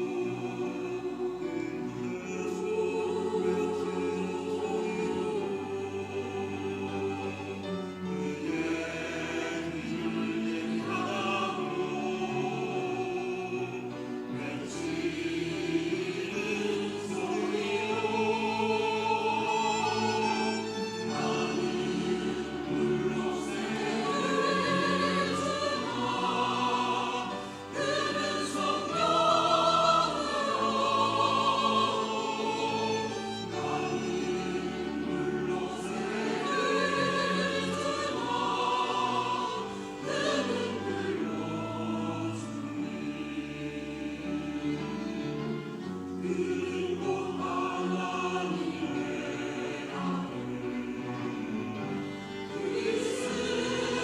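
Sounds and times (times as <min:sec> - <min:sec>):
choir singing in parts: 0:00.0 - 0:54.0.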